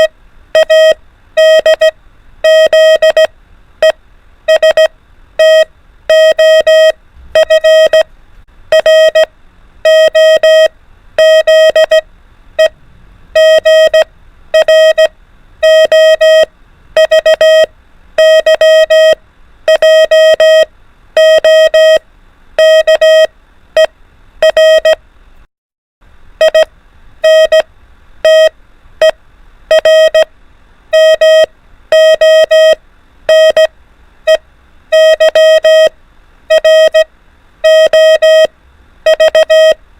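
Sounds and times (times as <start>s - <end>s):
morse code beeps: 0.0s - 8.1s, 8.7s - 12.0s, 13.4s - 22.0s, 22.6s - 25.0s, 26.4s - 30.3s, 30.9s - 33.7s, 34.3s - 35.9s, 36.5s - 38.5s, 39.1s - 39.8s.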